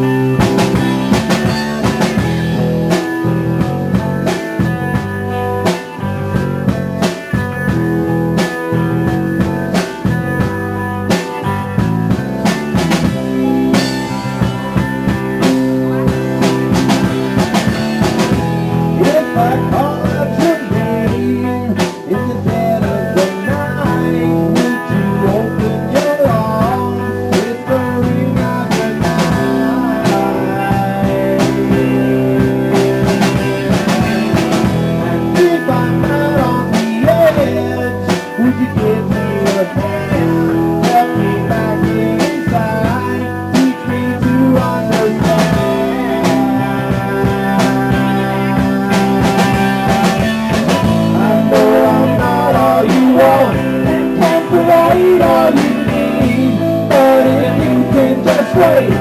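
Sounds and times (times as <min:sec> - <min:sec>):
band playing blues-rock: 0:00.0 - 0:59.0.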